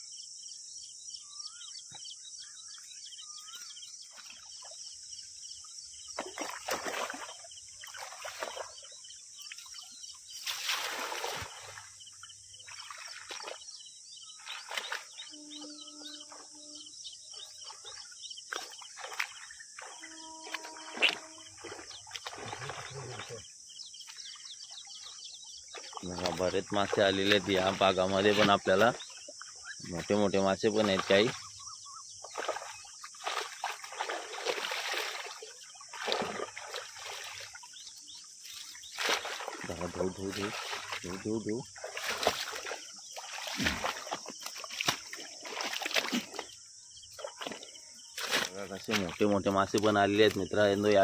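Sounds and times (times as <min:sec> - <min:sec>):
high insect hiss: 0:02.4 - 0:50.8
splashing in muddy water: 0:03.4 - 0:05.1, 0:06.0 - 0:15.6, 0:17.3 - 0:51.0.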